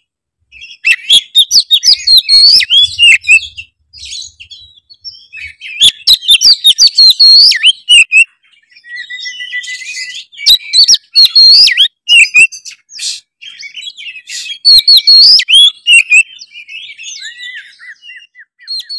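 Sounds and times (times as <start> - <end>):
bird singing whistled phrases: 0.6 - 18.9
thin held bird whistle: 0.6 - 18.9.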